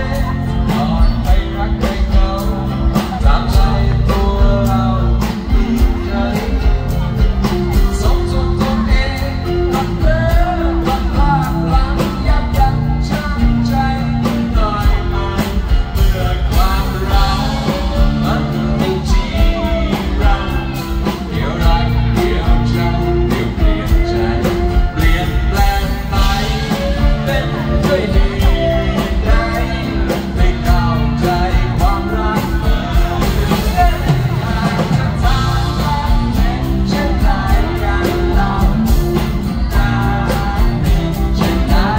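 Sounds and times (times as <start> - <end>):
live band with steady beat: 0.0 - 41.9
man singing: 0.0 - 41.9.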